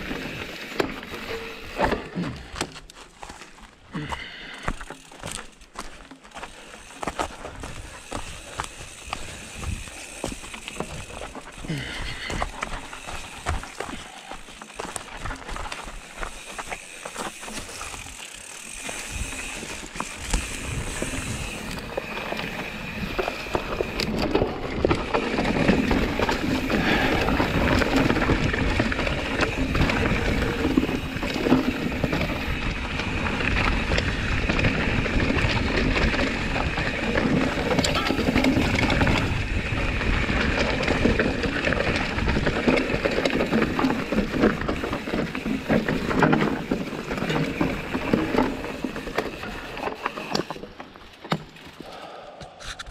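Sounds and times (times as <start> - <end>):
bike clattering over trail: 0.0 - 52.0
bike tyres rolling on dirt: 0.0 - 52.8.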